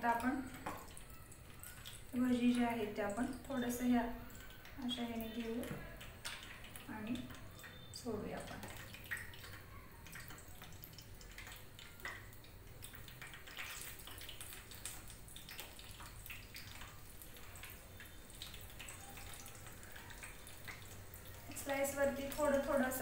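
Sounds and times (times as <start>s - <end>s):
potato slices deep-frying in oil: 0.0s - 23.0s
small oil crackles: 0.0s - 23.0s.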